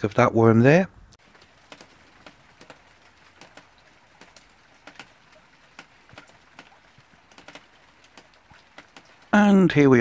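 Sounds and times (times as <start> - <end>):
rain hiss: 1.2 - 10.0
rainwater dripping: 1.2 - 10.0.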